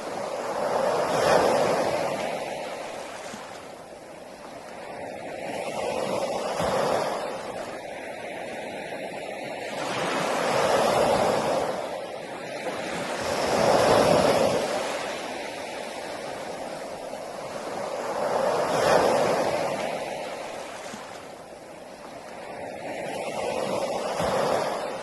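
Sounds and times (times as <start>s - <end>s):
sea waves breaking on a beach: 0.0s - 25.0s.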